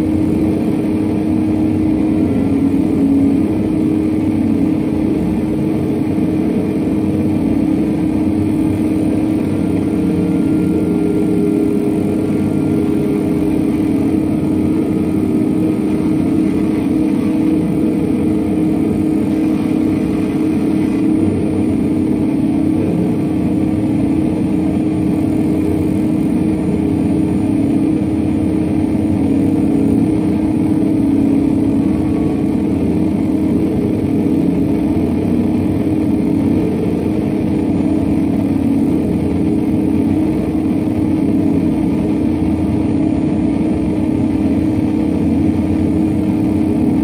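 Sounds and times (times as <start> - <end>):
electric guitar drone: 0.0 - 47.0.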